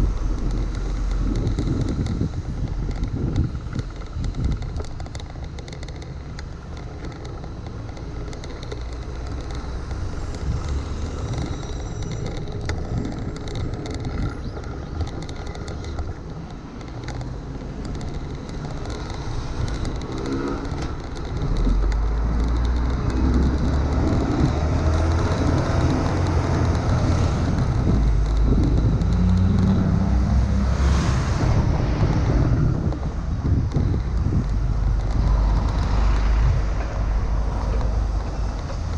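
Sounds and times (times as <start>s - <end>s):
bicycle tyre and wind noise: 0.0s - 38.9s
heavy low rumble of vehicles: 0.0s - 38.9s
passing motor traffic: 0.0s - 38.9s.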